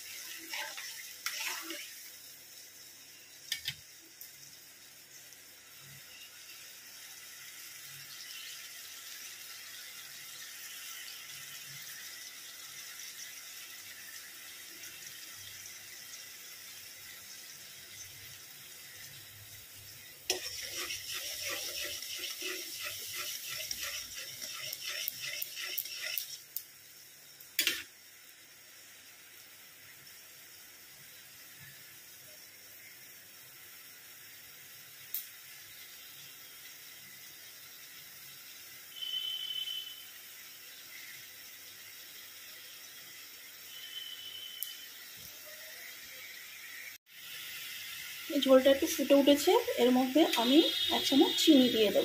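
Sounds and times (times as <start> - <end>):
gravy simmering with faint hiss: 0.0 - 52.0.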